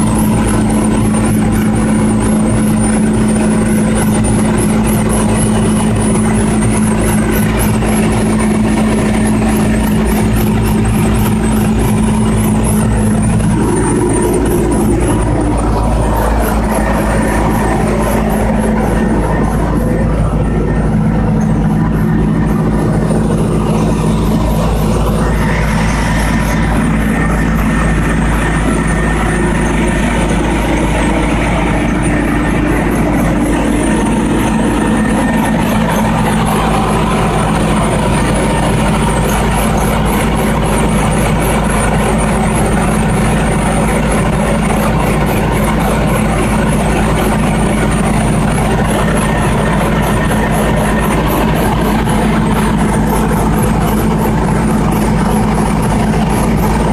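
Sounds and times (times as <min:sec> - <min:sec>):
generator engine humming: 0:00.0 - 0:56.9.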